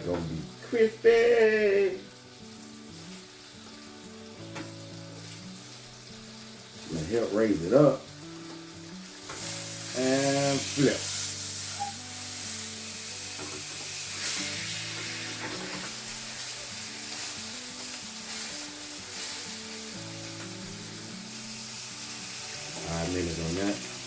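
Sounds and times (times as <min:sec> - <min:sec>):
background music with held notes: 0:00.0 - 0:24.0
fish sizzling in a hot pan: 0:00.0 - 0:24.0.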